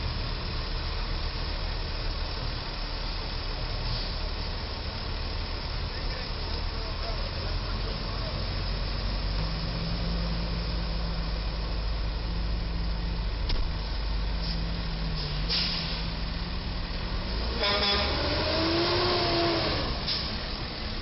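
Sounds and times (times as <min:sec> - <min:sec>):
truck engines idling: 0:00.0 - 0:21.0.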